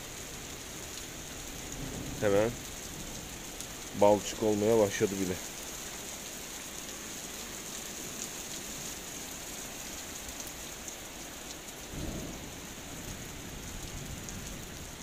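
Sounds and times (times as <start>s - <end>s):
heavy rain on ground: 0.0s - 15.0s.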